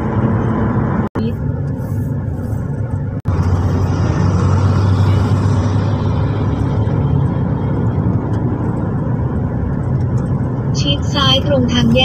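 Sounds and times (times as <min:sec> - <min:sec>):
engine and tyre rumble: 0:00.0 - 0:12.0
road and wind hiss: 0:00.0 - 0:12.0.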